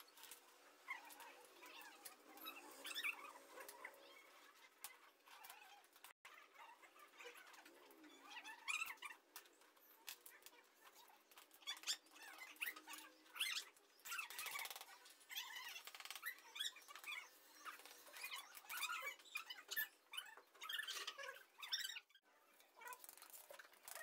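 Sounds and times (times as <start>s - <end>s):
high squeaky chirps: 0.0s - 22.2s.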